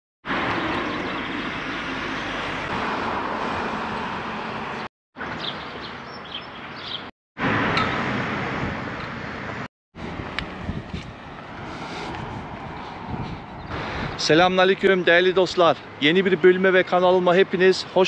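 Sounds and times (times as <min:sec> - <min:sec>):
road traffic rushing: 0:00.2 - 0:18.0.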